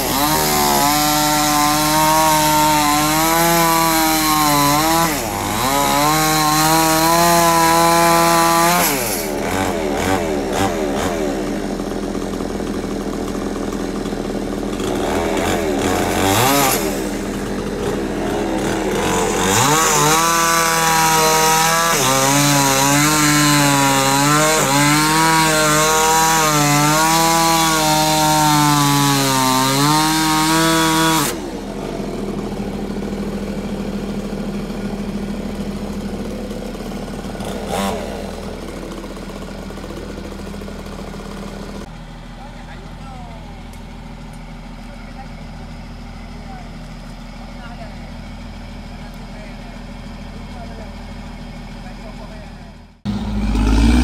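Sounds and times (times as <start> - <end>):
chainsaw revving and cutting: 0.0 - 41.9, 51.8 - 54.0.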